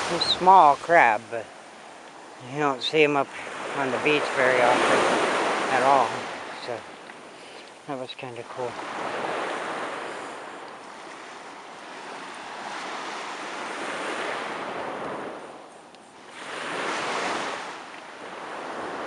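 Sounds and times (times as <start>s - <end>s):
ocean surf breaking on shore: 0.0s - 19.0s.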